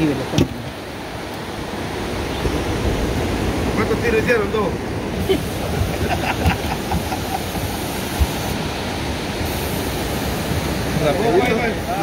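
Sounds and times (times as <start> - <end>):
sea water rushing: 0.0 - 12.0
wind: 0.0 - 12.0.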